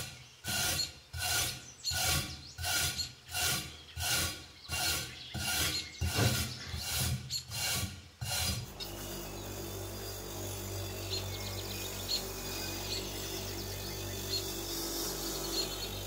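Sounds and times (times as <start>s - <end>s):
wire brush scraping cast iron: 0.0s - 16.0s.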